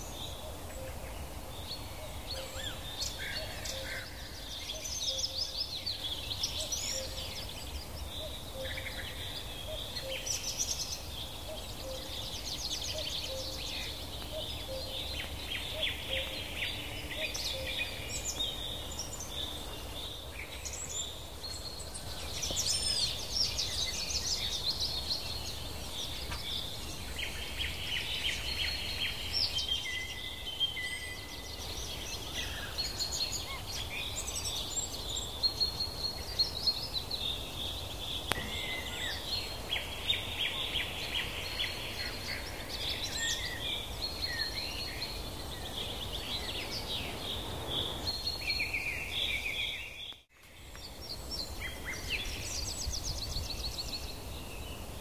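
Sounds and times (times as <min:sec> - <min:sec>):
small birds chirping chorus: 0:00.0 - 0:55.0.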